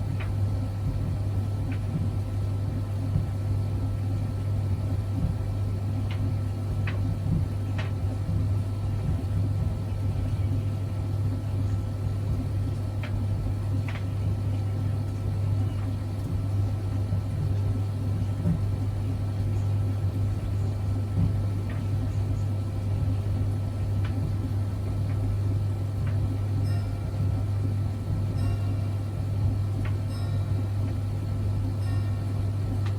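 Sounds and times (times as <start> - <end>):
washing machine humming: 0.0 - 32.9.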